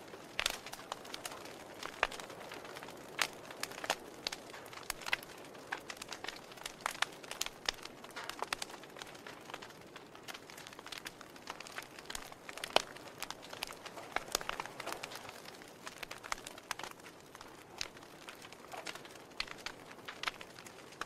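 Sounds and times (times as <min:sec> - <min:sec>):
log fire crackling and popping: 0:00.0 - 0:21.0
soft fire hiss: 0:00.0 - 0:21.0.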